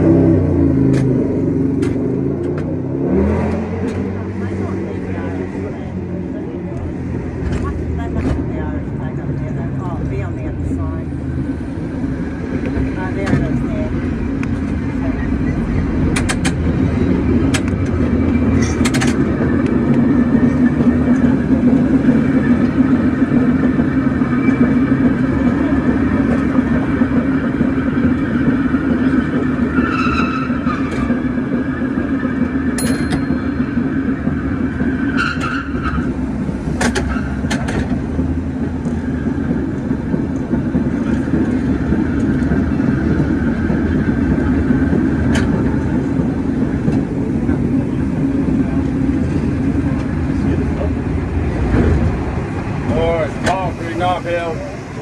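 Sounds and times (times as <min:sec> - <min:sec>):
cable car hum and rattle: 0:00.0 - 0:55.0.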